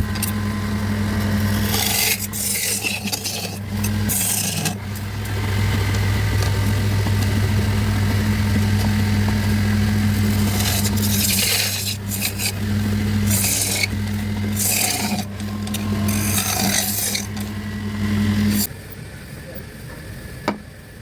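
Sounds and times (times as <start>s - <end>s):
power tool motor humming: 0.0s - 18.7s
wood scraping: 0.0s - 18.7s.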